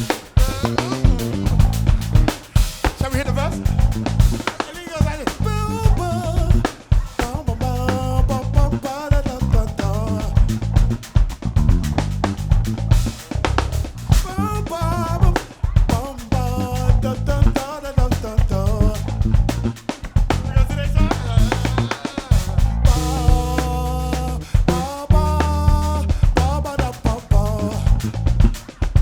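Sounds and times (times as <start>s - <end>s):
bass line: 0.0s - 29.0s
drum kit beat: 0.0s - 29.0s.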